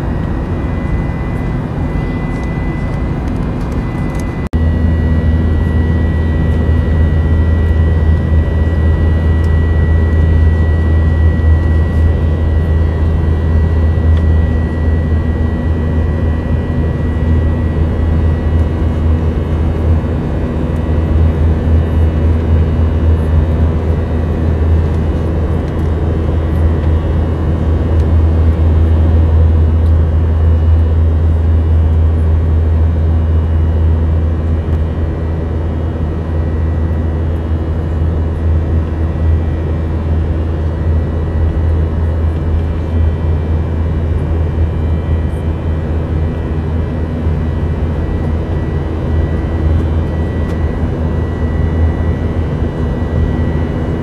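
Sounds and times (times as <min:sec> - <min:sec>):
jet engines and airflow rumble: 0:00.0 - 0:54.0.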